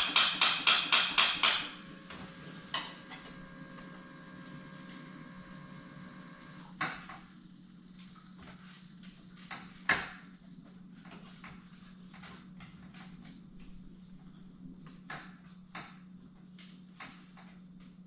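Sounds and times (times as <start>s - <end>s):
low steady hum: 1.6s - 18.0s.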